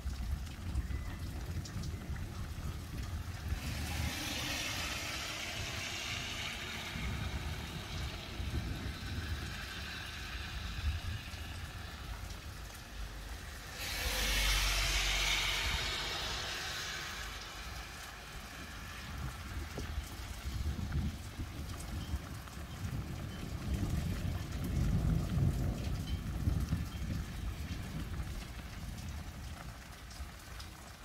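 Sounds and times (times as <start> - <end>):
low rumble: 0.0 - 30.8
rain hiss: 0.0 - 31.0.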